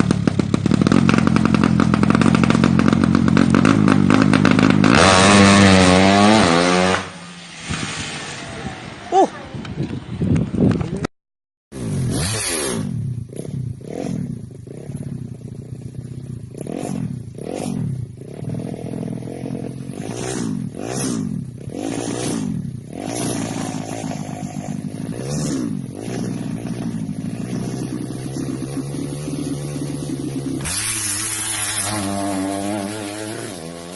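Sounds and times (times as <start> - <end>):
motorcycle engine revving: 0.0 - 11.1, 11.7 - 33.9.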